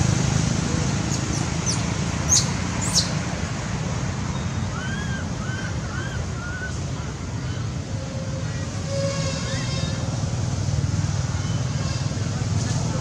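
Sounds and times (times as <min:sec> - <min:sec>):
low traffic-like rumble: 0:00.0 - 0:13.0.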